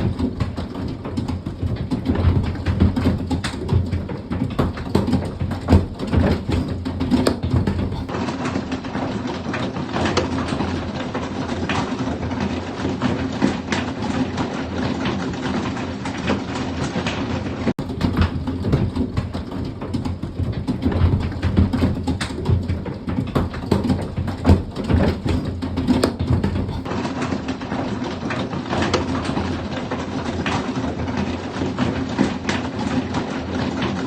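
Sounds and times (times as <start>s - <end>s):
hailstones pelting a house: 0.0s - 34.0s.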